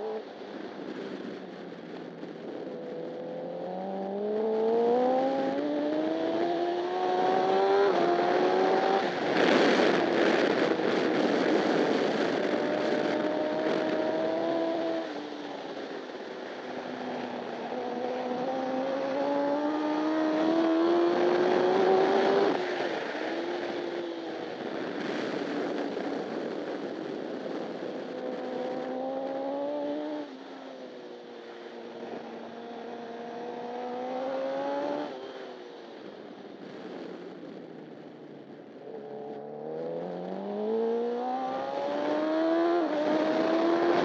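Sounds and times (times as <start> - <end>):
motorcycle engine accelerating: 0.0 - 44.0
wind noise: 0.0 - 44.0.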